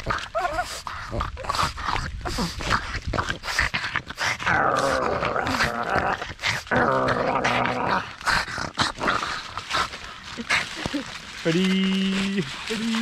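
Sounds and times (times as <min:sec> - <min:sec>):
dog play-growling: 0:00.0 - 0:11.6.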